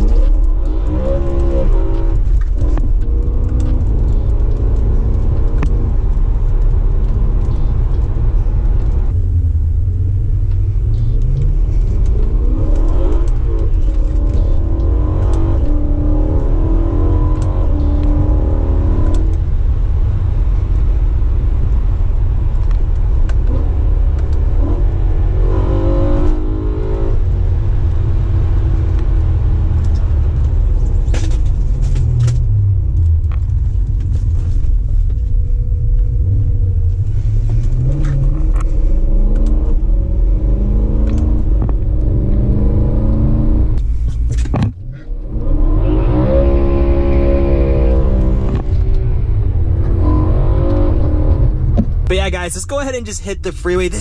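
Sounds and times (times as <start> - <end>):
car engine accelerating: 0.0 - 54.0
road noise: 0.0 - 54.0.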